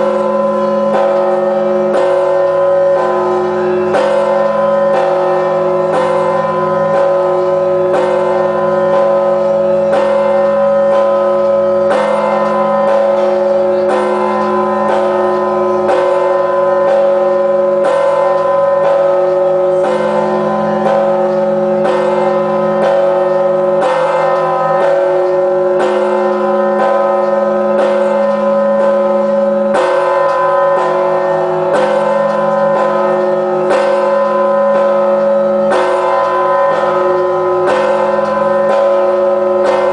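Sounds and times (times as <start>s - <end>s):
large church bell striking: 0.0s - 39.9s.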